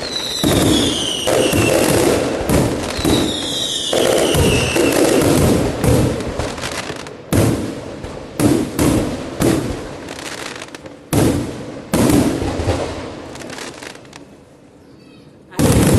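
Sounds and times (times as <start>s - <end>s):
fireworks banging with echo: 0.0s - 14.6s, 15.5s - 15.9s.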